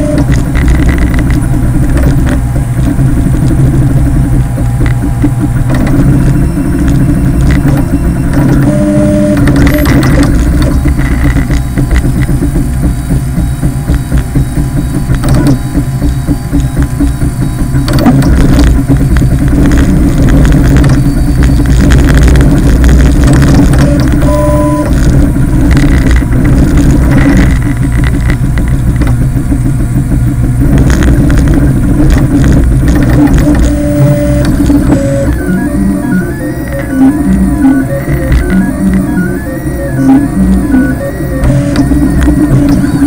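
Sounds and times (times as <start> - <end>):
printer low rumble: 0.0 - 43.0
stepper motor whines: 0.0 - 43.0.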